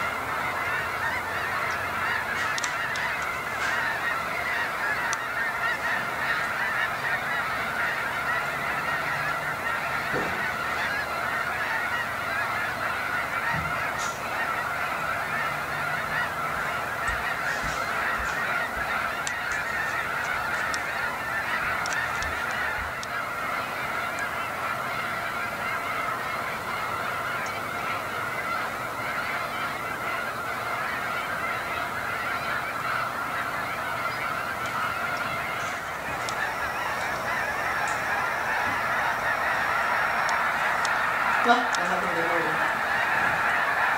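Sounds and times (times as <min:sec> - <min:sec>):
geese honking: 0:00.0 - 0:43.9.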